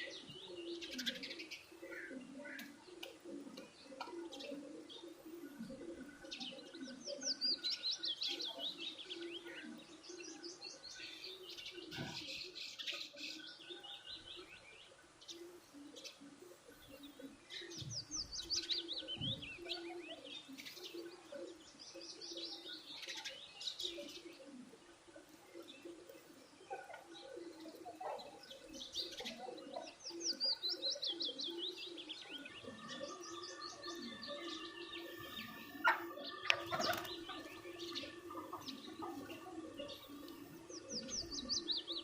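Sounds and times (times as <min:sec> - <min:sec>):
small birds chirping high: 0:00.0 - 0:42.0.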